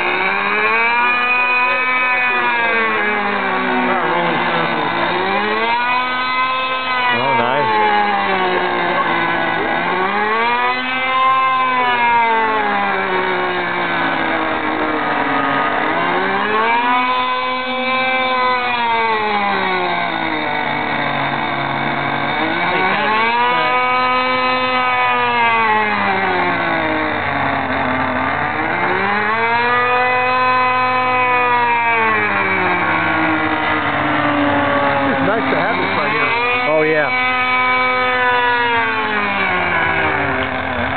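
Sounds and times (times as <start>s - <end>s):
model plane engine in flight: 0.0s - 40.9s.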